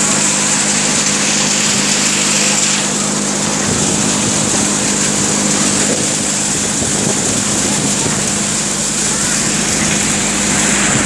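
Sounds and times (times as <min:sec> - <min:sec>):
thresher mechanical drone: 0:00.0 - 0:11.0.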